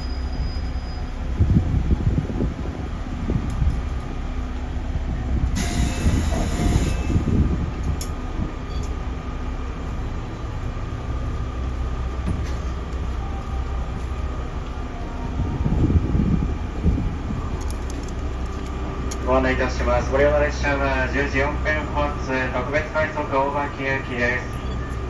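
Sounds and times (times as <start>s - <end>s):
train equipment hum: 0.0s - 25.0s.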